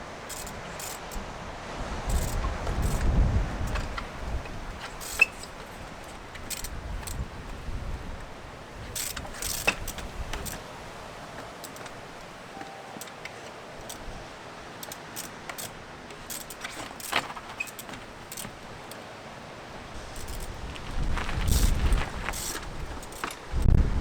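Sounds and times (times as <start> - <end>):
bicycle clicking and clattering: 0.1 - 1.4, 2.0 - 23.8.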